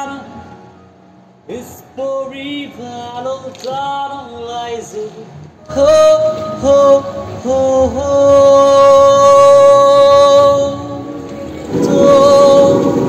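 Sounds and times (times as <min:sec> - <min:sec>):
person singing unaccompanied: 0:01.5 - 0:13.0.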